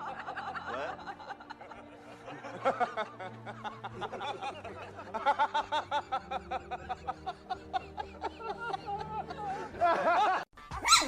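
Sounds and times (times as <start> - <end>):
background music: 0.0 - 11.0
person laughing: 0.2 - 11.0.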